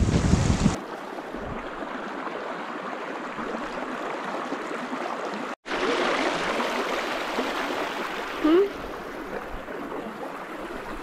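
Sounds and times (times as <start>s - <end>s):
creek babbling: 0.8s - 11.0s.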